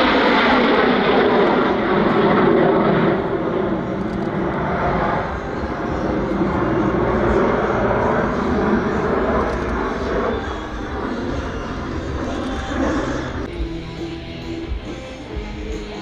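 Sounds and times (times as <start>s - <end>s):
aircraft engine roar: 0.0s - 16.0s.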